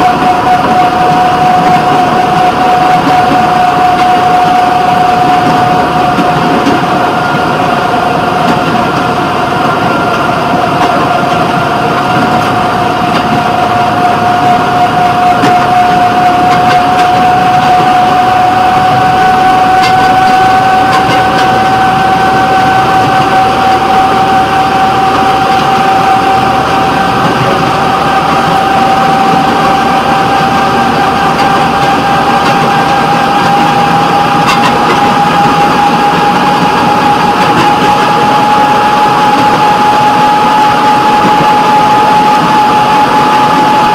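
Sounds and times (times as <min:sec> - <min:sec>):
high whine rising in pitch: 0:00.0 - 0:43.9
rail vehicle engine running: 0:00.0 - 0:43.9.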